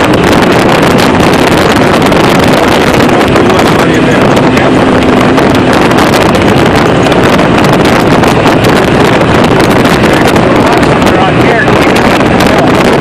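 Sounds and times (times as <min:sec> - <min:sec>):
vehicle engine running: 0:00.0 - 0:13.0
wind buffeting microphone: 0:00.0 - 0:13.0.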